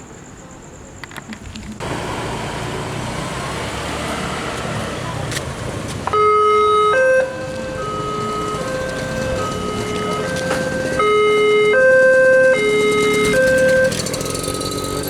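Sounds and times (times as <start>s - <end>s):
train rumbling past: 1.8s - 15.0s.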